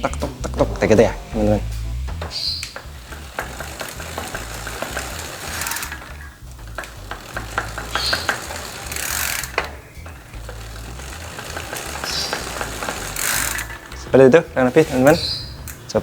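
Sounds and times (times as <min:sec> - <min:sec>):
bicycle freewheel ticking: 0:00.0 - 0:16.0
grinding rumble: 0:00.0 - 0:16.0.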